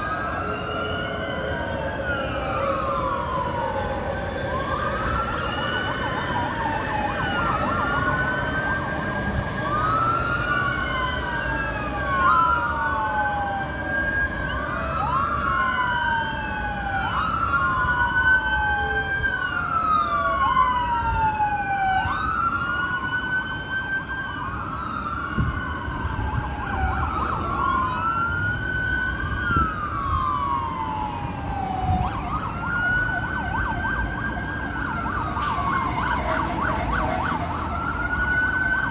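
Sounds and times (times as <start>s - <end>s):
emergency vehicle sirens wailing: 0.0s - 38.9s
low traffic rumble: 0.0s - 38.9s.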